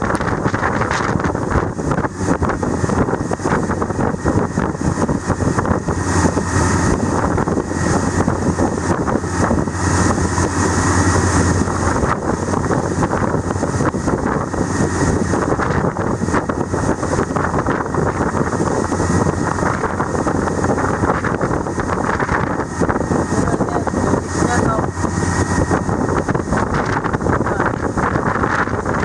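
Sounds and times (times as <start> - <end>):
churning wake water: 0.0 - 29.0
motorboat engine drone: 0.0 - 29.0
wind buffeting microphone: 0.0 - 29.0.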